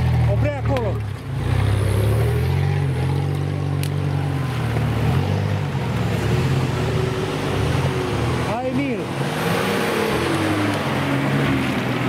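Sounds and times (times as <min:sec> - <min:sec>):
engines running at low revs: 0:00.0 - 0:12.0.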